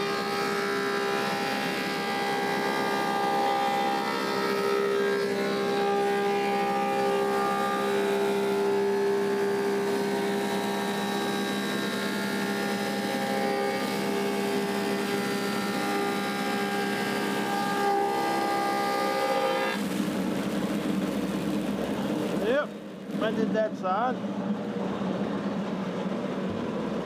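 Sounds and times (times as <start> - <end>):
planer machine hum and whine: 0.0 - 27.0.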